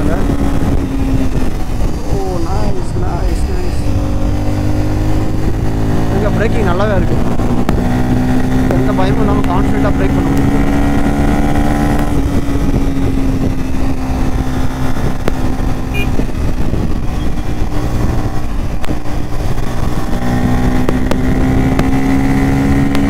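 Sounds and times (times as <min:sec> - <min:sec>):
motorcycle engine running: 0:00.0 - 0:23.0
wind rush: 0:00.0 - 0:23.0.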